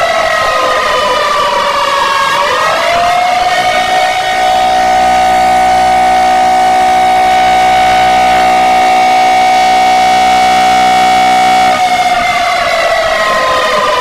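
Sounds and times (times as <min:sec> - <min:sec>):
synthetic alarm tones: 0:02.4 - 0:14.0.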